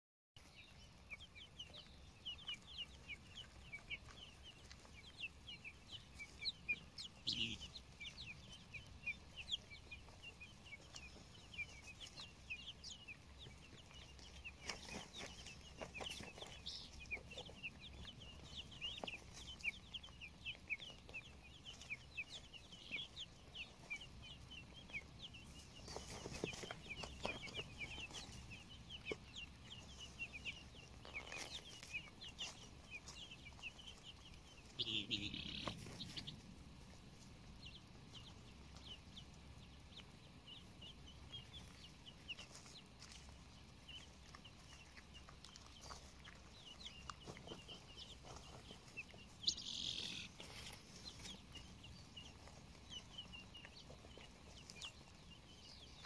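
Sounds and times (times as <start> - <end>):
guineafowl chicks peeping: 0.4 - 56.0.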